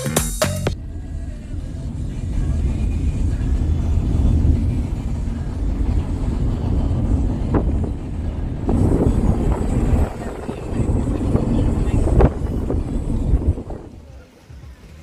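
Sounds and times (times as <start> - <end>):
loud low rumble: 0.6 - 14.0.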